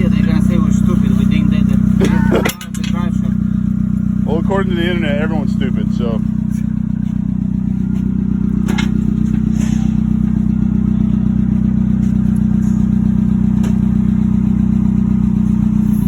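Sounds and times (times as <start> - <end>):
vehicle engine running steadily: 0.0 - 16.0.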